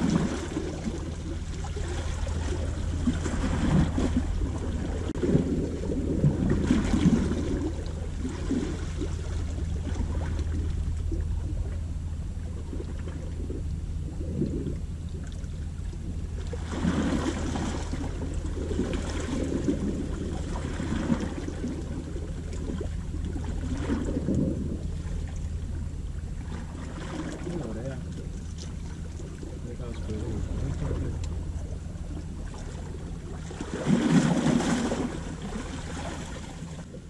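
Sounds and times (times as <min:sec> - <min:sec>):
wind rumble on microphone: 0:00.0 - 0:37.0.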